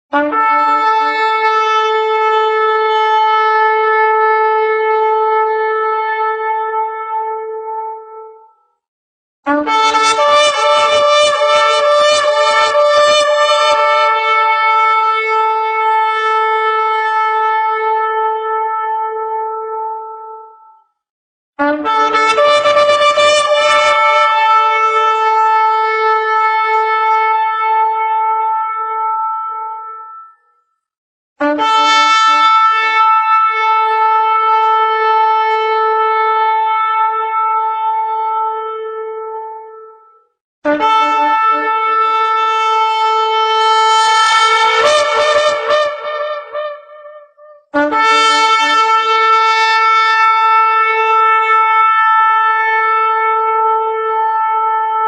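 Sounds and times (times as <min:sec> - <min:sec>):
shofar blast: 0:00.1 - 0:08.4, 0:09.5 - 0:20.8, 0:21.6 - 0:30.4, 0:31.4 - 0:40.0, 0:40.7 - 0:55.0.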